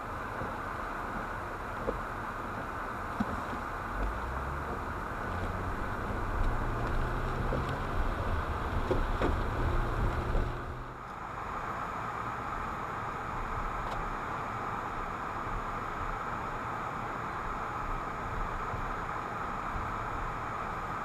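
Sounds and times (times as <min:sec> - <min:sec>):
low engine hum: 0:00.0 - 0:21.0
tyres rushing on slushy road: 0:00.0 - 0:21.0.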